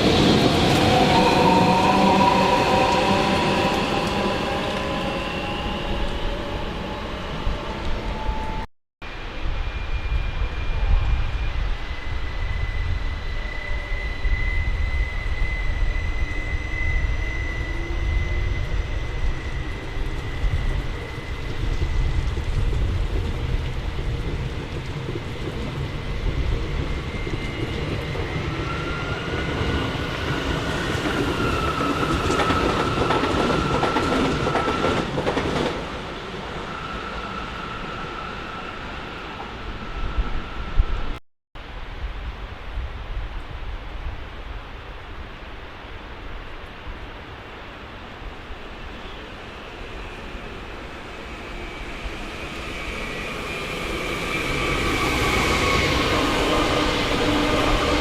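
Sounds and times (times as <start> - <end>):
train rumbling: 0.0 - 41.2, 41.9 - 58.0.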